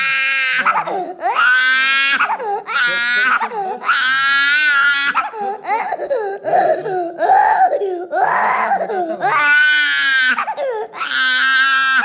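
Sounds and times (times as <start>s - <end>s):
child crying: 0.0s - 12.0s.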